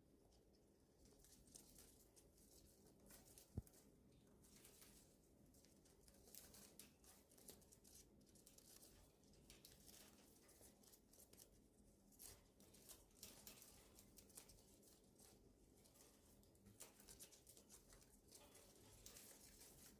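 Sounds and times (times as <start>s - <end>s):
birds nibbling and tearing leaves: 1.0s - 19.9s.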